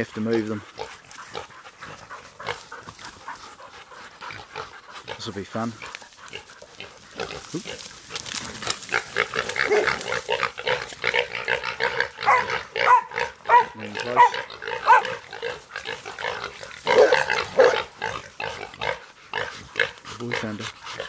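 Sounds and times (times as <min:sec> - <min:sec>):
pigs squealing and grunting: 0:00.0 - 0:21.0.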